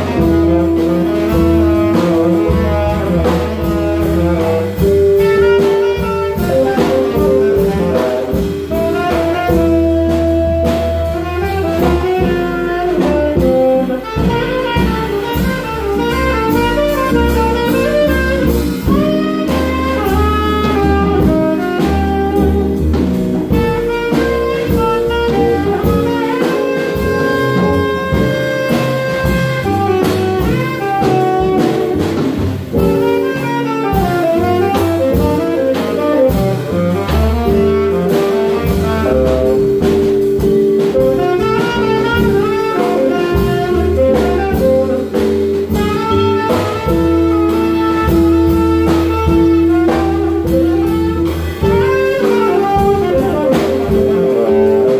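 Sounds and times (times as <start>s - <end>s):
double bass: 0.0s - 54.9s
drum set with cymbals: 0.0s - 54.9s
guitar: 0.0s - 54.9s
saxophones playing melody: 0.0s - 54.9s.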